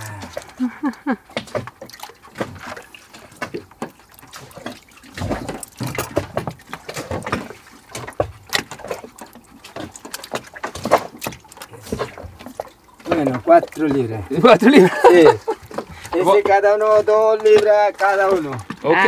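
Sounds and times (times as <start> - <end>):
water splashing in bucket: 0.0 - 19.0.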